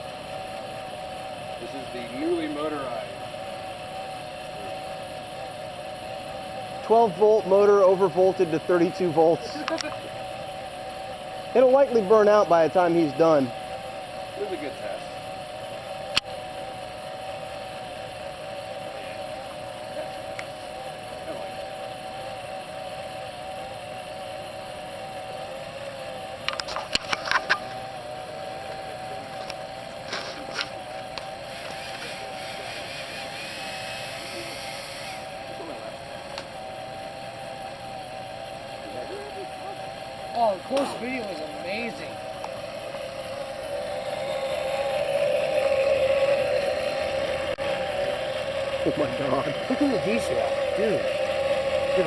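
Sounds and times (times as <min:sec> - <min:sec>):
hiss of spinning flame: 0:00.0 - 0:52.0
small electric motor whining: 0:00.0 - 0:52.0.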